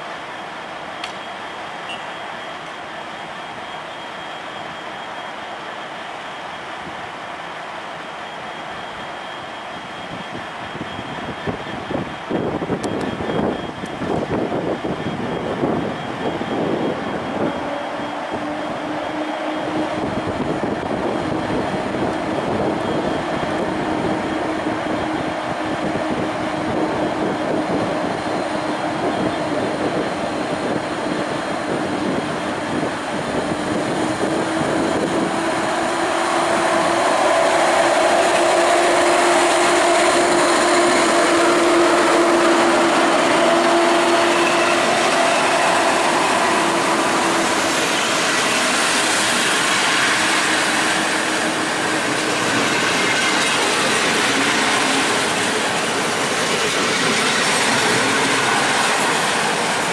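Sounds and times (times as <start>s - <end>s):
locomotive hum: 0.0s - 59.9s
train wheels rumbling on rails: 0.0s - 59.9s.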